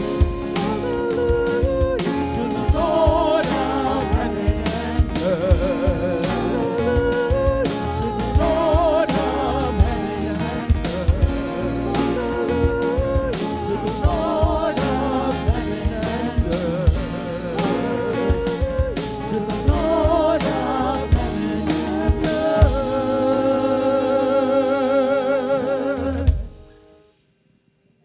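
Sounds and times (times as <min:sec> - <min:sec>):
people singing: 0:00.0 - 0:26.6
drums: 0:00.0 - 0:27.2
worship band playing: 0:00.0 - 0:27.2.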